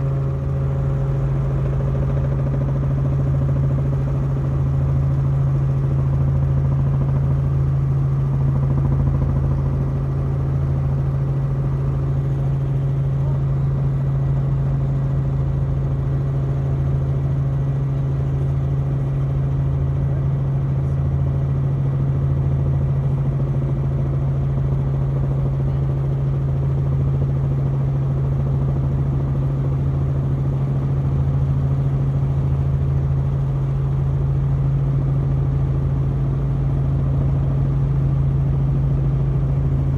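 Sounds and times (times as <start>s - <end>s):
helicopter drone: 0.0s - 39.9s.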